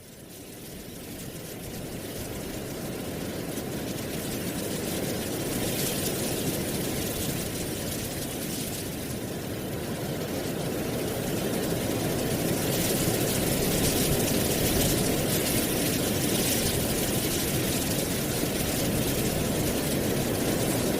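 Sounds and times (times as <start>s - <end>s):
low rumble of wind: 0.0s - 20.9s.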